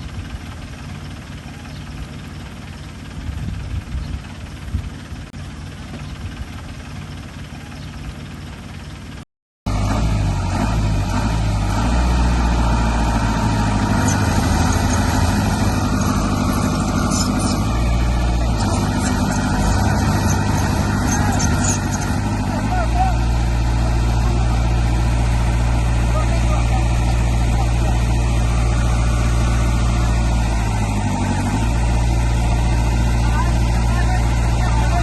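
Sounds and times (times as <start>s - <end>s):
quieter rumble: 0.0s - 9.0s, 12.0s - 35.0s
heavy machine engine running: 0.0s - 35.0s.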